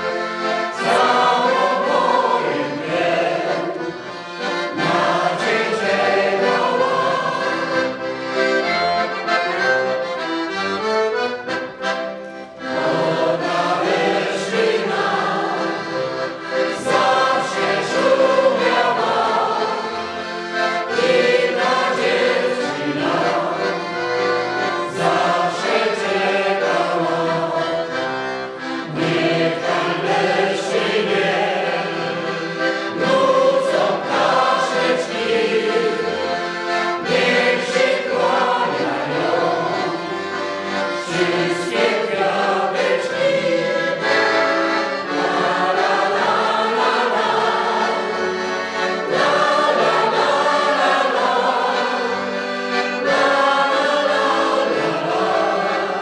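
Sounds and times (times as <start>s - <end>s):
mixed choir singing: 0.0s - 8.3s, 12.6s - 56.0s
accordion: 0.0s - 56.0s.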